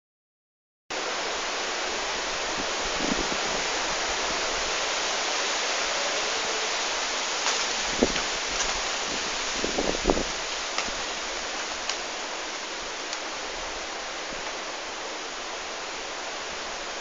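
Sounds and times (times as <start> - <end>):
heavy rain on foliage: 0.9 - 17.0.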